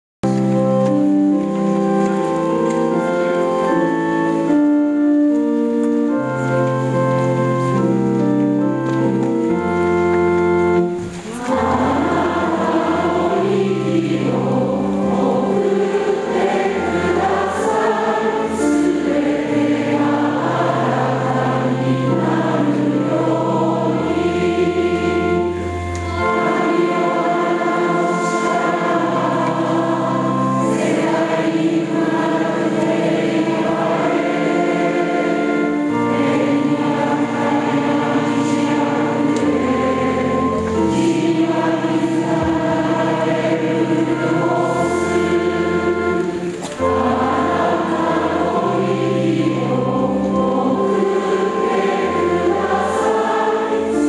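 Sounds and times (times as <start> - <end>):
organ playing chords: 0.2 - 54.0
choir singing a hymn: 0.3 - 54.0.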